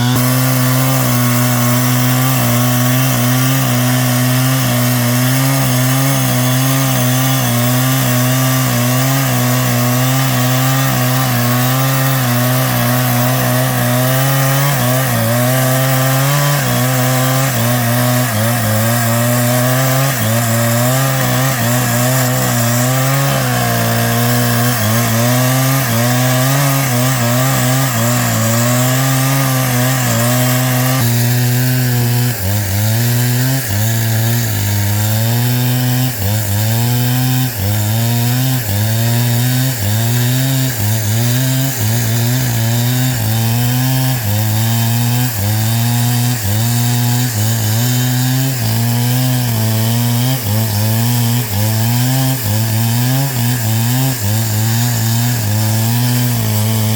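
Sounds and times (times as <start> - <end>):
power tool motor working wood: 0.0 - 56.9.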